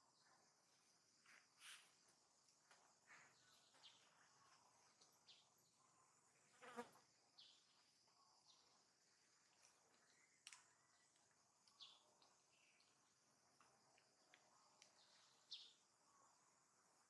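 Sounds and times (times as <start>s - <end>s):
faint chirps: 0.0s - 17.0s
high insect hum: 0.0s - 17.0s.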